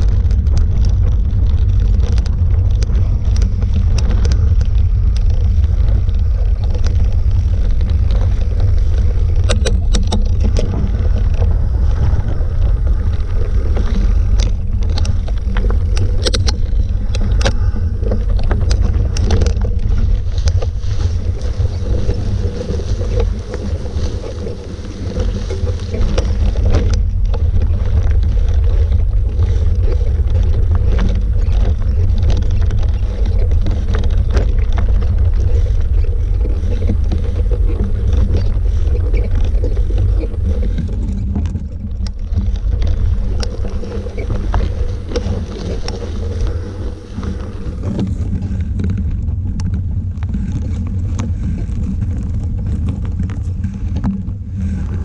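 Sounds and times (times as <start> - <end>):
small clicks and knocks: 0.0 - 12.2, 13.0 - 55.0
steady low drone: 0.0 - 55.0
wind rumble on microphone: 0.0 - 55.0.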